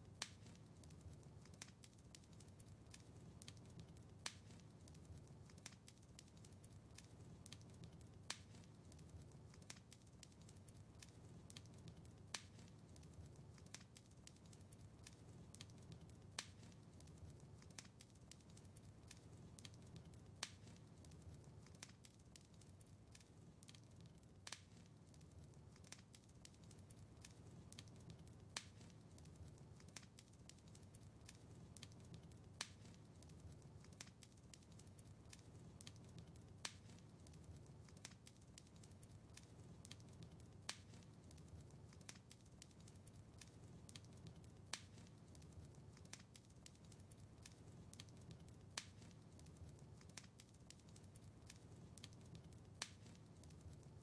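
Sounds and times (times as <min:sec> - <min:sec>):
sharp pops of fire: 0:00.0 - 0:53.9
wood fire crackling: 0:00.0 - 0:54.0.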